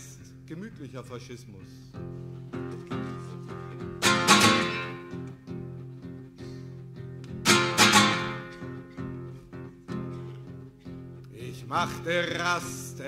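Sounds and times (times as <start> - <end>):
acoustic guitar picked notes: 1.7 - 13.0
acoustic guitar strummed chords: 2.0 - 13.0.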